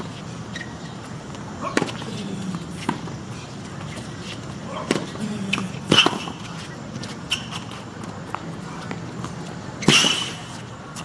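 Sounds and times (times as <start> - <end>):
shoe squeaks: 0.0 - 8.8, 9.7 - 11.0
tennis ball bouncing: 0.0 - 10.6
racquets striking tennis ball: 0.0 - 11.0.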